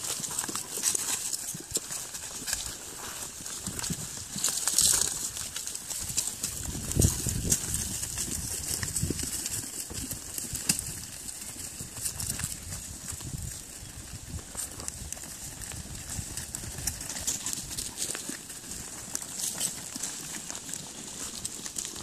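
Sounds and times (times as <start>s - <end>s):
leaves and twigs crackling: 0.0s - 22.0s
sheep hooves pattering: 0.0s - 22.0s.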